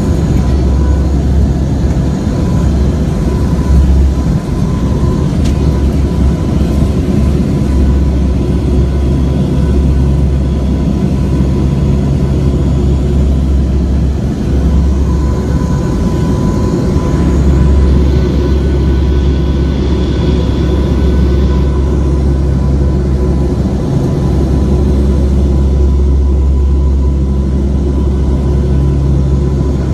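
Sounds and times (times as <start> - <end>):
aircraft engine drone: 0.0 - 29.9.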